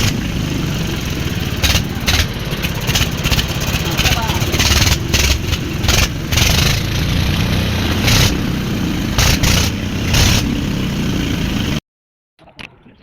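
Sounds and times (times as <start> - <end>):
diesel engine running: 0.0 - 11.8
hissing surges: 0.0 - 11.8.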